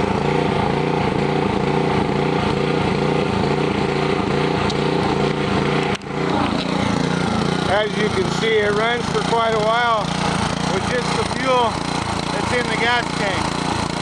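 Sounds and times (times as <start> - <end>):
small engine running steadily: 0.0 - 14.0.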